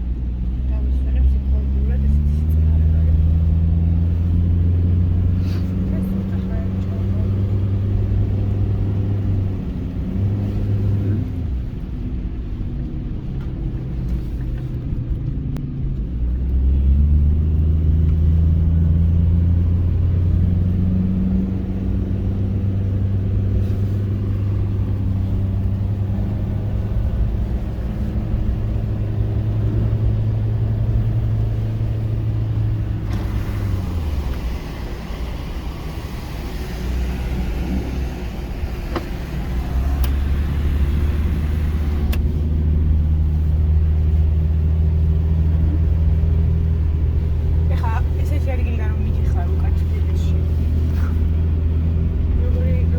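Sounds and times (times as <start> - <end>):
road noise hiss: 0.0 - 15.0, 16.3 - 52.9
car engine from inside cabin: 0.0 - 52.9.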